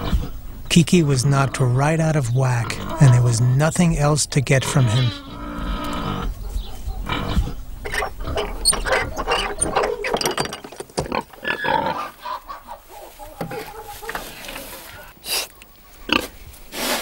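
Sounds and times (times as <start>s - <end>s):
pig grunting: 0.0s - 10.3s, 11.0s - 15.4s.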